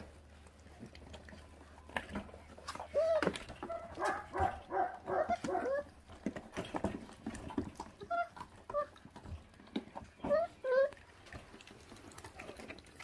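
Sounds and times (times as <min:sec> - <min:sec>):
puppies chewing and crunching bone: 0:00.0 - 0:13.0
puppies whining: 0:01.4 - 0:13.0.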